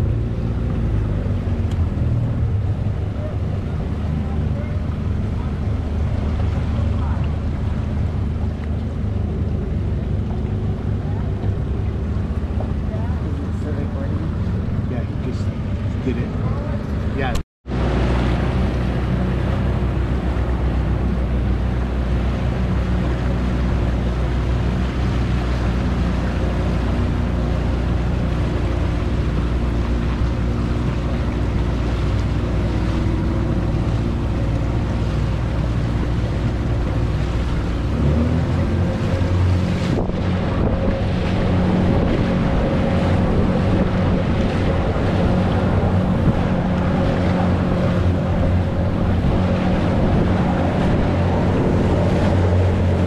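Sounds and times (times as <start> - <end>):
motorboat engine hum: 0.0 - 53.0
water rushing past hull: 0.0 - 53.0
wind buffeting microphone: 0.0 - 53.0.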